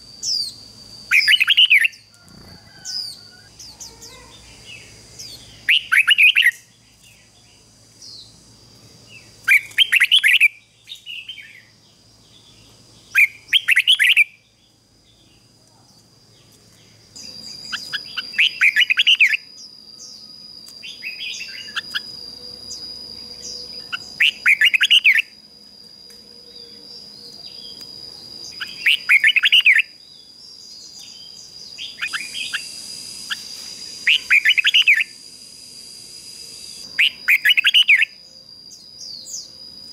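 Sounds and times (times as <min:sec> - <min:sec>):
thin steady high whine: 0:00.0 - 0:39.9.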